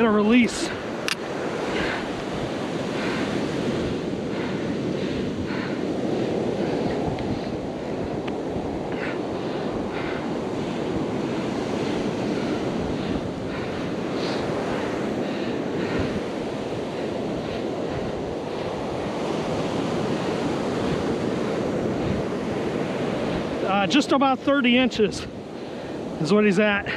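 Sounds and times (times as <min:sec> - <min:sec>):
ocean surf washing on beach: 0:00.0 - 0:26.9
wind buffeting microphone: 0:00.0 - 0:26.9.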